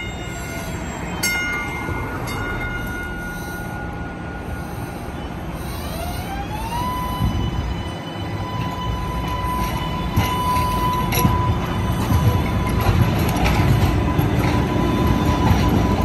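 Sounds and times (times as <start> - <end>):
traction motors whining: 0.0 - 16.0
wheels rumbling on rails: 0.0 - 16.0.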